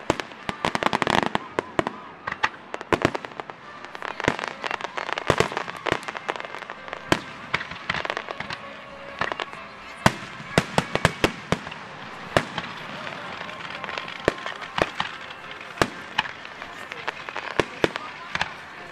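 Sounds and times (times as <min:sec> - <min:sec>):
fireworks bursting with sharp bangs: 0:00.0 - 0:18.9.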